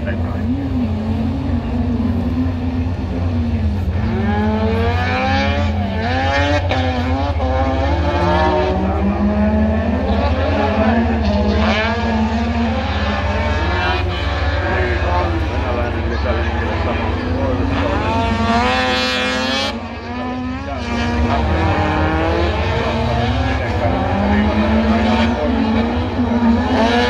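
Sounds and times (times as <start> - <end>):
race car engines accelerating: 0.0 - 27.0.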